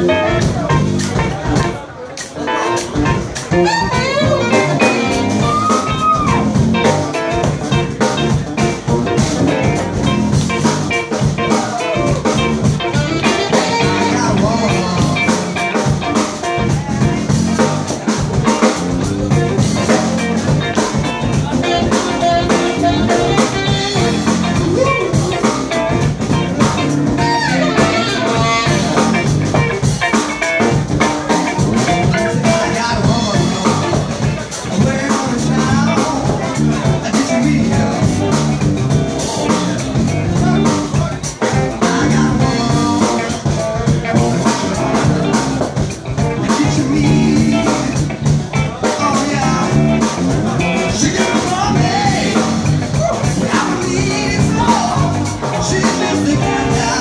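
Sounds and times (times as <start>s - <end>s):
live blues band playing: 0.0s - 57.0s.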